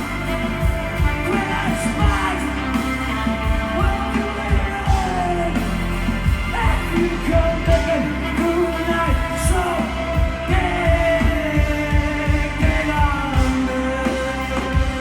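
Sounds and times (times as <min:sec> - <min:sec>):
live rock band playing: 0:00.0 - 0:15.0
person singing and yelling: 0:00.0 - 0:15.0
drum beat: 0:00.6 - 0:13.8.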